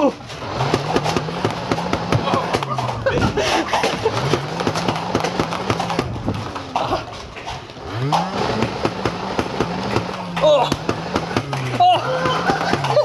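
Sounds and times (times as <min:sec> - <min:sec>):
foam blaster flywheel whirring: 0:00.0 - 0:13.0.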